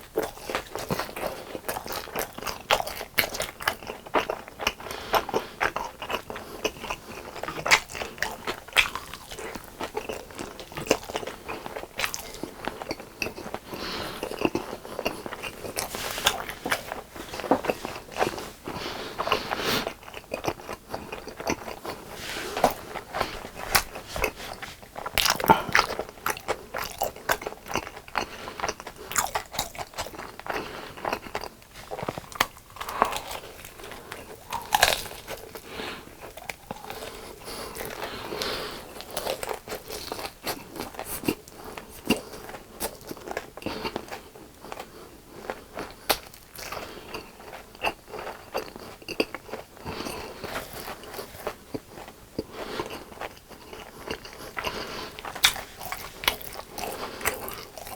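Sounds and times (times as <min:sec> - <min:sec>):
crunchy chewing of fried chicken: 0:00.0 - 0:57.9.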